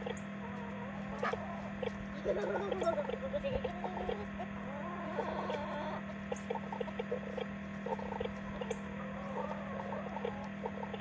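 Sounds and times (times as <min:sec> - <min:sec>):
low electrical hum: 0:00.0 - 0:11.0
small animal calling: 0:00.0 - 0:11.0.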